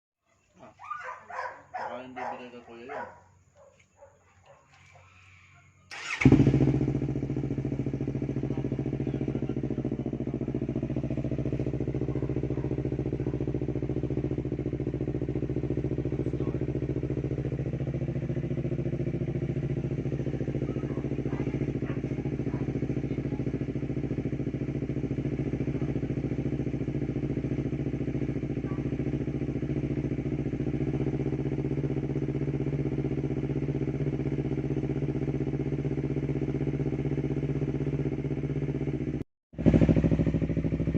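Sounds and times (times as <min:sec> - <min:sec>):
motorcycle engine starting and idling: 0:01.0 - 0:40.9.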